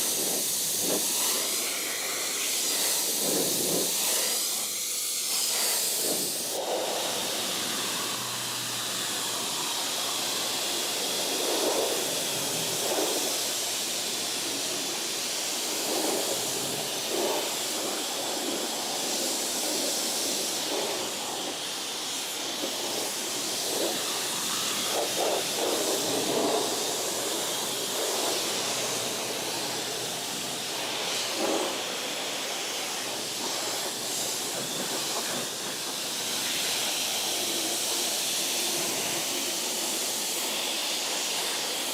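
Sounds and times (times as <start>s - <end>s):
water spraying onto car: 0.0s - 41.9s.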